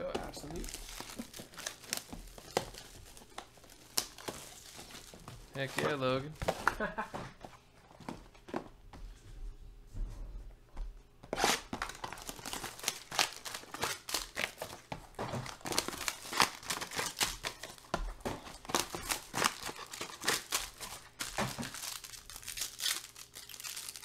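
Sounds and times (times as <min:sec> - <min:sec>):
plastic wrapping crinkling and tearing: 0:00.0 - 0:06.9, 0:11.3 - 0:24.0.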